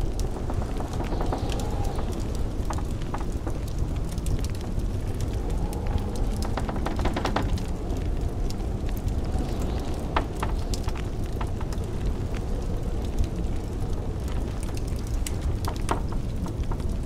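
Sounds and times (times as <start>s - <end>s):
blizzard wind rumble: 0.0s - 17.0s
fire pops: 0.0s - 17.0s
wood fire crackling: 0.0s - 17.0s.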